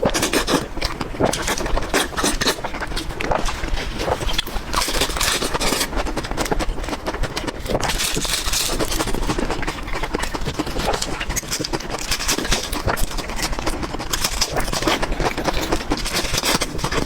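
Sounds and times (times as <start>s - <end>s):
close chewing with wet mouth clicks: 0.0s - 17.0s.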